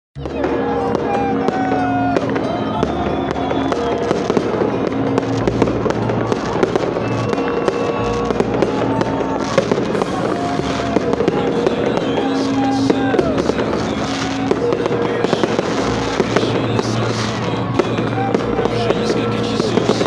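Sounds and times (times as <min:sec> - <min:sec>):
fireworks popping and crackling: 0:00.2 - 0:20.0.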